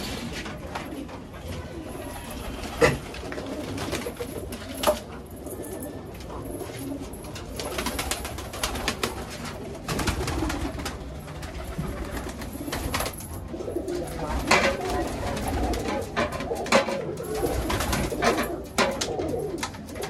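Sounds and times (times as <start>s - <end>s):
clicks and rustles of birds moving: 0.0s - 20.0s
pigeons cooing: 0.0s - 20.0s.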